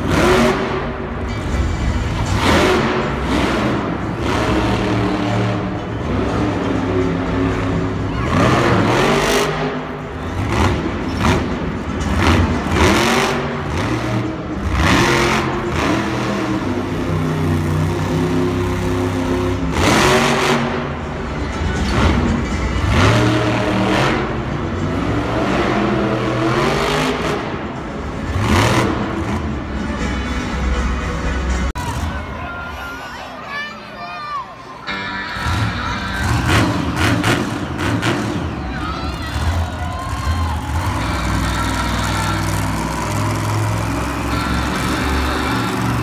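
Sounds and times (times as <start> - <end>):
truck engines revving hard: 0.0 - 32.4, 34.9 - 46.0.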